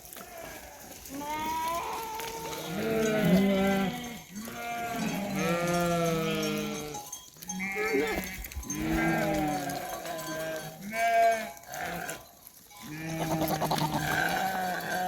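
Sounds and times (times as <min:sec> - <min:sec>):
sheep bleating: 0:00.0 - 0:15.0.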